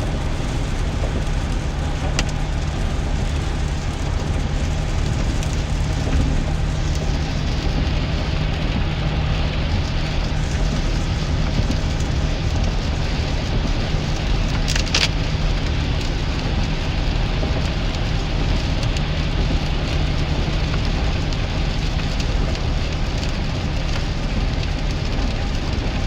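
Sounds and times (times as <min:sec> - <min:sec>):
engine and road hum: 0:00.0 - 0:26.0
heavy rain on a vehicle: 0:00.0 - 0:26.0.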